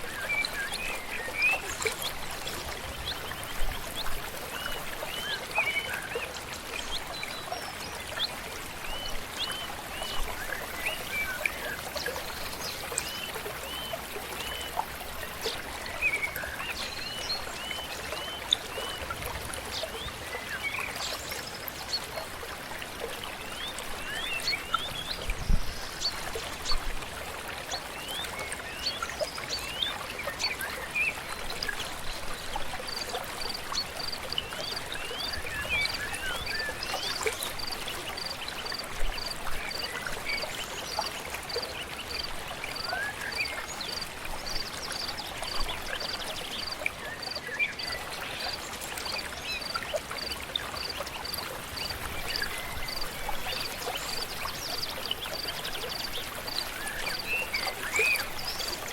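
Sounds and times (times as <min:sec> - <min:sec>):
stream running water: 0:00.0 - 0:58.9.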